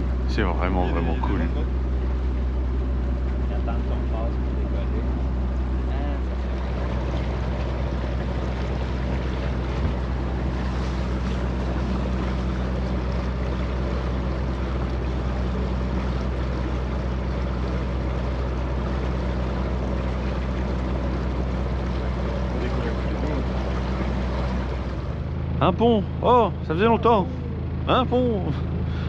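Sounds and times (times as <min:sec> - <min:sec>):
diesel engine drone: 0:00.0 - 0:29.0
water rushing past hull: 0:00.0 - 0:29.0.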